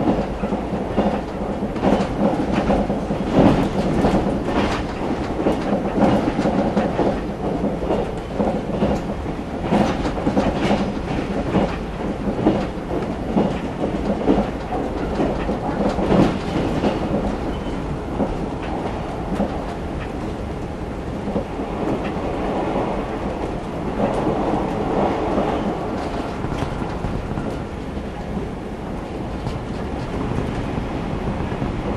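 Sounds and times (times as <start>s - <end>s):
train wheels rumbling on rail: 0.0s - 31.9s
wheels clacking over rail joints: 0.0s - 31.9s.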